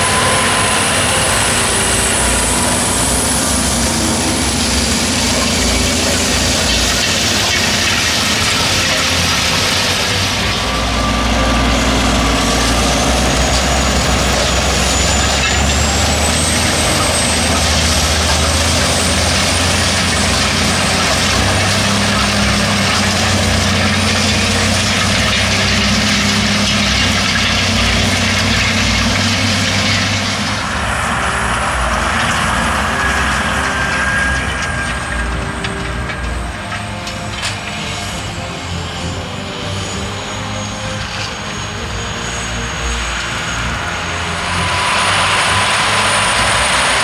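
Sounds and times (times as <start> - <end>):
cultivator discs hissing and rattling: 0.0 - 39.0
tractor diesel engine under load: 0.0 - 47.0.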